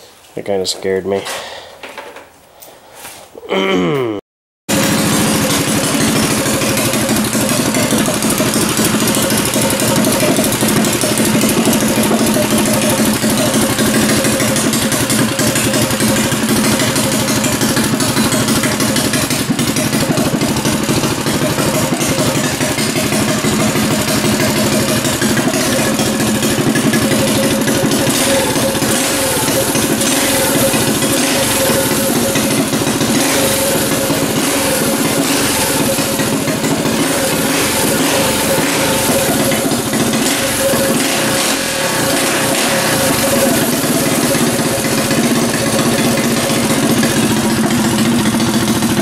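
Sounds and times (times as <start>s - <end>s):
small engine idling: 4.7s - 49.0s.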